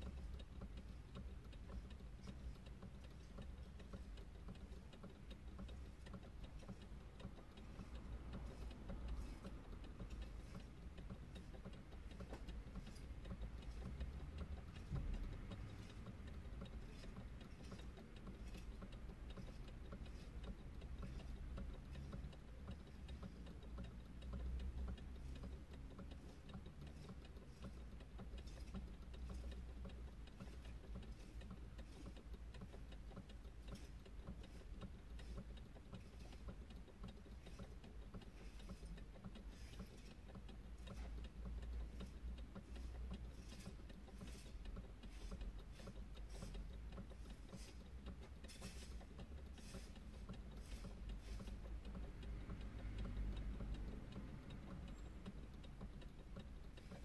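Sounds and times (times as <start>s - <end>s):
faint ticking: 0.0s - 57.0s
low steady rumble: 0.0s - 57.0s.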